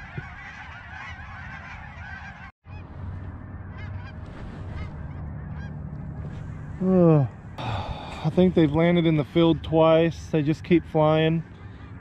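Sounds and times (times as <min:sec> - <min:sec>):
flock of geese calling: 0:00.0 - 0:06.8, 0:08.8 - 0:12.0
low steady rumble: 0:00.0 - 0:12.0.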